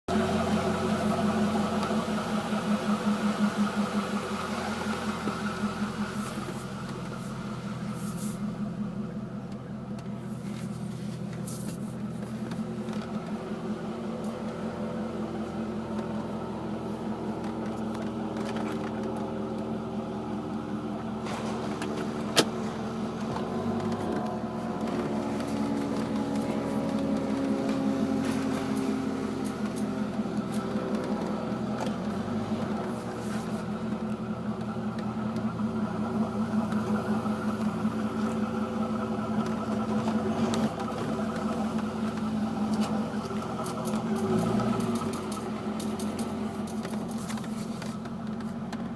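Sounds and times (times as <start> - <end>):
car engine running: 0.0 - 48.9
clicking from car: 0.9 - 8.6, 9.4 - 19.8, 20.4 - 48.9.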